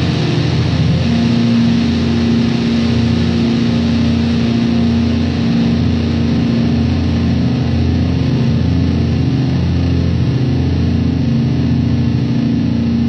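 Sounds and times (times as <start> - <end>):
distorted guitar note: 0.0 - 13.0.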